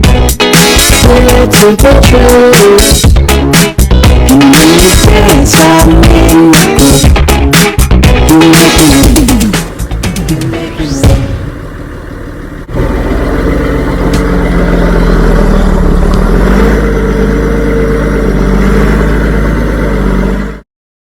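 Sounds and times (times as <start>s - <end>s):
machinery engine humming: 0.0s - 20.6s.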